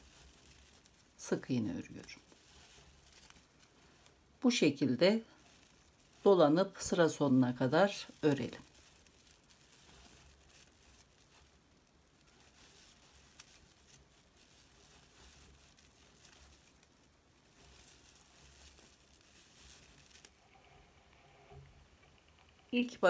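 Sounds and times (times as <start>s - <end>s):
paper yarn rustling and crinkling: 0.0s - 23.0s.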